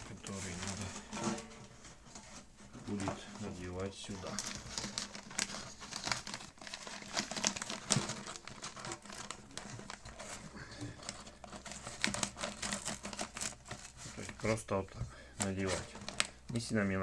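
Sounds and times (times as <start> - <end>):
paper bag crinkling and rustling: 0.0 - 17.0.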